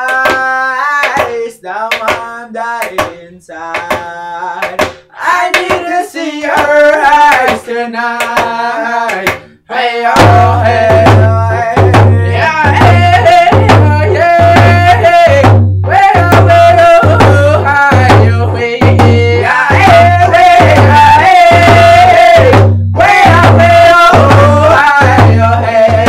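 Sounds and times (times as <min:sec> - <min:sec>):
hand drums beating: 0:00.0 - 0:26.0
men singing: 0:00.0 - 0:26.0.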